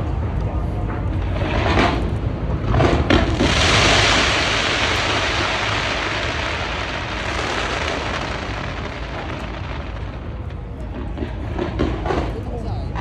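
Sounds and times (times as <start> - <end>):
firework bangs: 0.0 - 13.0
fireworks crackling hiss: 0.8 - 12.9.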